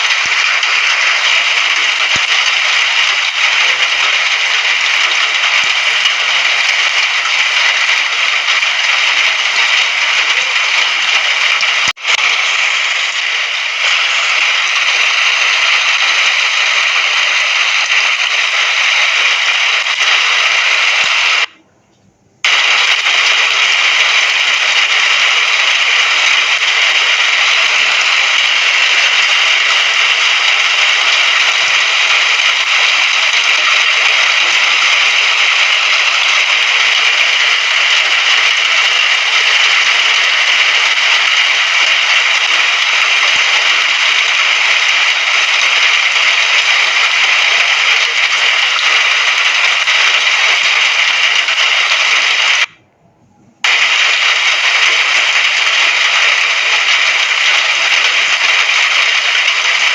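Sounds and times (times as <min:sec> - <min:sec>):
steady rain: 0:00.0 - 0:21.6, 0:22.4 - 0:52.8, 0:53.6 - 0:59.9.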